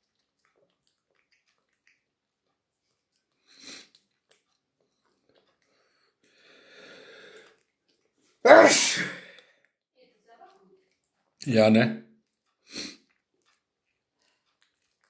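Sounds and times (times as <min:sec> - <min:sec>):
cat licking plate: 0:00.0 - 0:08.4, 0:10.4 - 0:11.4, 0:12.2 - 0:15.0.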